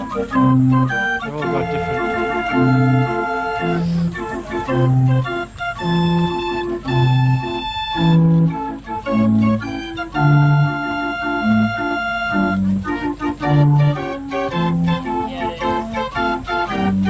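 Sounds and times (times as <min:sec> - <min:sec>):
mechanical street organ tune: 0:00.0 - 0:17.0.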